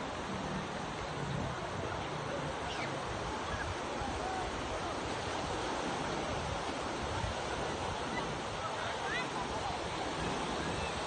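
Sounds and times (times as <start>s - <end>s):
sea waves washing ashore: 0.0s - 11.0s
wind rumbling on microphone: 0.0s - 11.0s.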